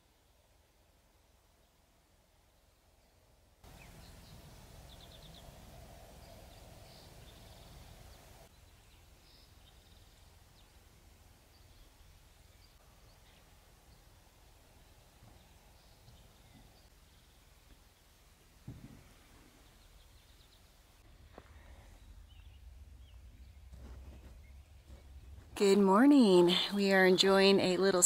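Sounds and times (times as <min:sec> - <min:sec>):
faint even hiss: 0:02.7 - 0:26.4
distant bird chirps: 0:03.7 - 0:28.0.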